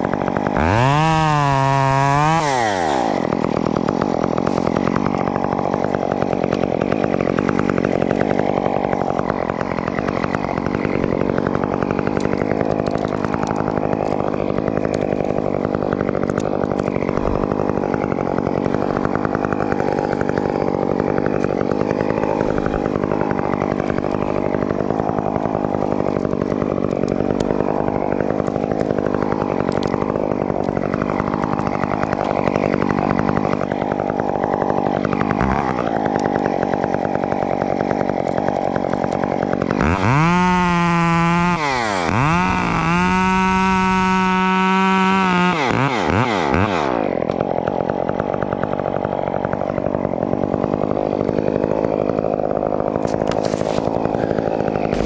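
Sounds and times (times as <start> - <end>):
chainsaw running: 0.0 - 55.0.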